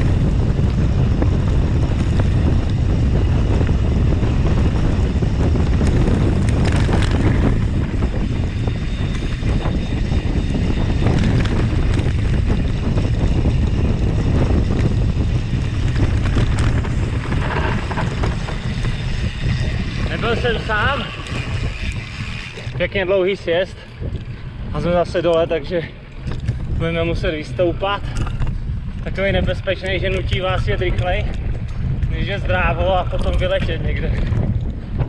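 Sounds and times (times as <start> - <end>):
mountain bike rumbling and rattling: 0.0 - 35.0
wind buffeting microphone: 0.0 - 35.0.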